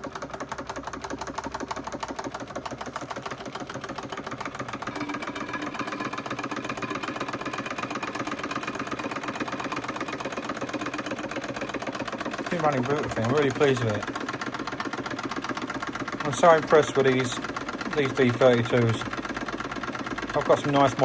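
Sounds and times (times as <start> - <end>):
steam engine running: 0.0 - 21.0.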